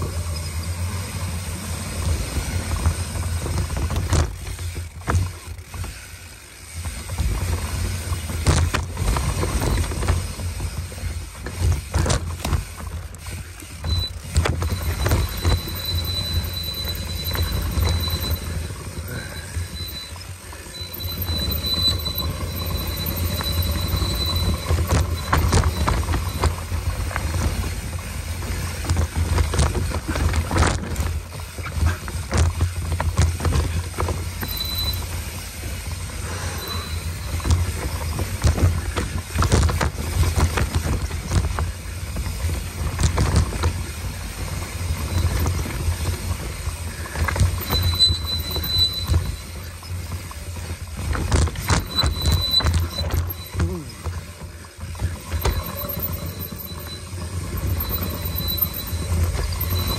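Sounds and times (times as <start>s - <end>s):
thin high whine: 0.0s - 4.8s, 12.8s - 59.9s
bike rattling and knocking: 0.0s - 59.9s
tyres rolling over dirt and rocks: 0.0s - 59.9s.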